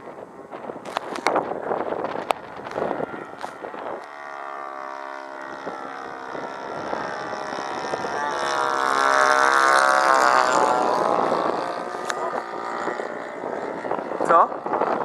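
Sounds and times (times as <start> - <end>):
plane engine droning overhead: 0.0 - 15.0
wind buffeting microphone: 0.0 - 15.0.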